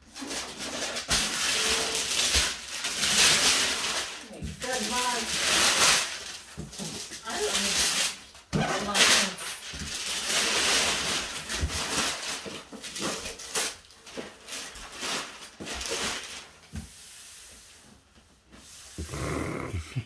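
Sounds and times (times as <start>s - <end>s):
wrapping paper tearing and crinkling: 0.0s - 16.7s.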